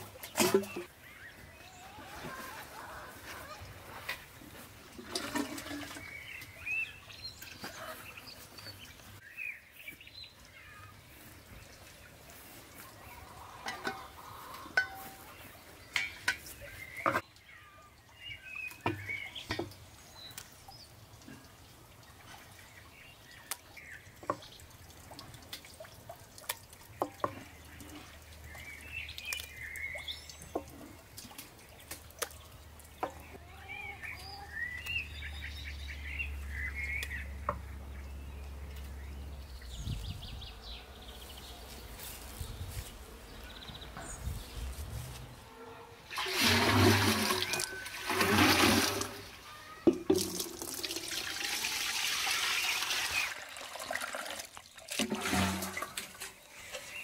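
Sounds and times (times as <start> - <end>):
birds chirping: 0.0 - 4.8, 5.4 - 24.7, 26.7 - 50.0.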